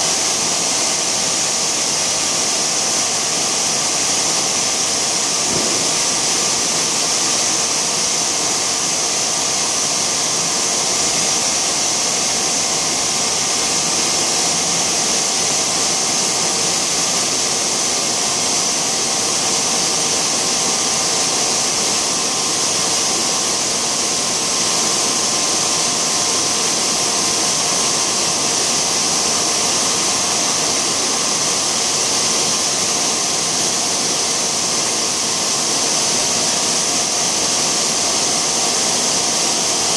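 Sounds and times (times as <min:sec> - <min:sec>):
machine hissing: 0:00.0 - 0:39.9.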